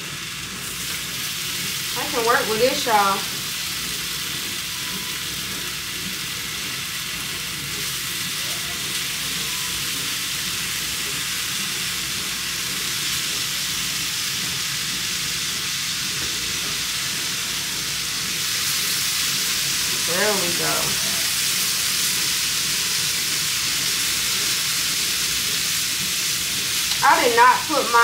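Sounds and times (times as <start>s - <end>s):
bacon sizzling: 0.0s - 28.0s.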